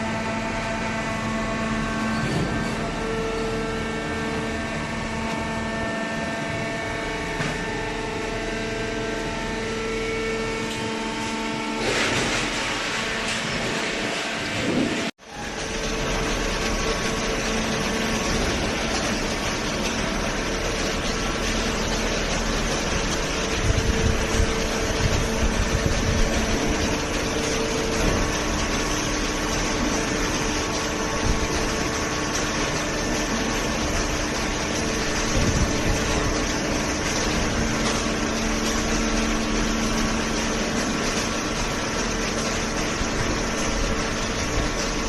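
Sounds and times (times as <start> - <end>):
hydraulic pump motor hum: 0.0 - 45.0.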